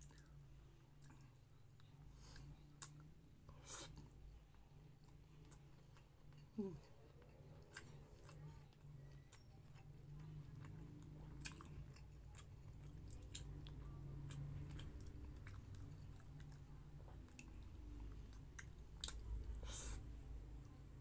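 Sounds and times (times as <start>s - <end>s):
close chewing of food: 0.0s - 20.8s
low steady hum: 0.0s - 21.0s.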